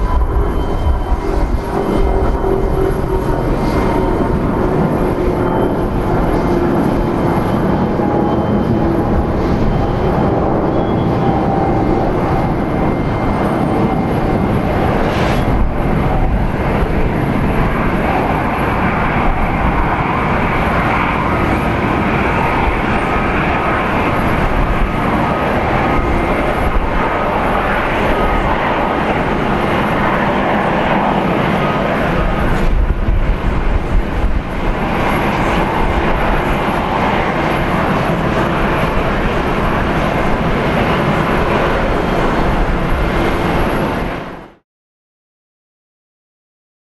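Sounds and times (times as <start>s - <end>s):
jet engines roaring: 0.0s - 44.6s.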